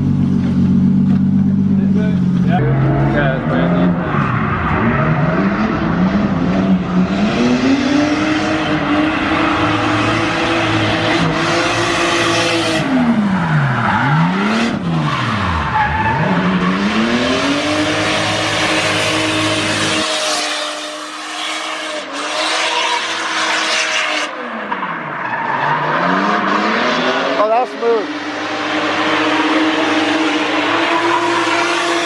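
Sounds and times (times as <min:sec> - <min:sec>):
car engine at high revs: 0:00.0 - 0:32.0.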